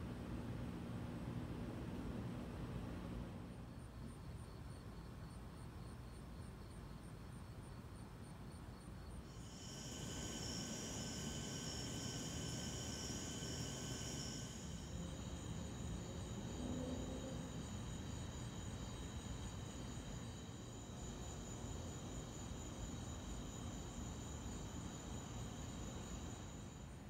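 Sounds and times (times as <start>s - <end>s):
crickets chirping and trilling: 3.7s - 27.0s.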